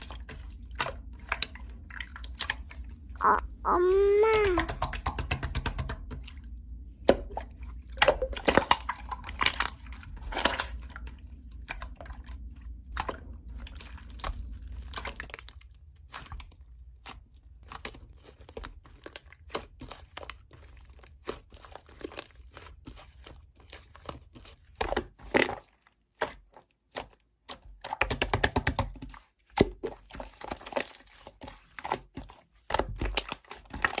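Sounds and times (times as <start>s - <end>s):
hands squishing slime: 3.2s - 11.0s, 13.0s - 34.0s.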